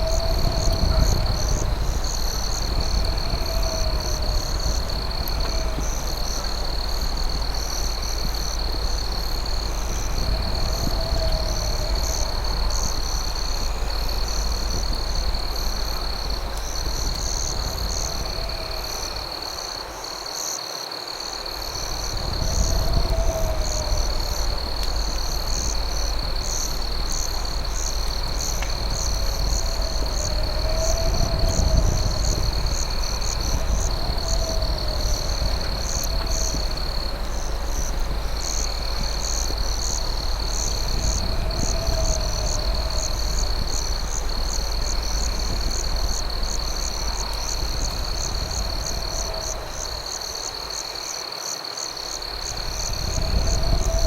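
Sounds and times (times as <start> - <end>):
steady low rumble: 0.0 - 19.4, 21.6 - 50.6, 52.4 - 54.0
crickets trilling: 0.0 - 54.0.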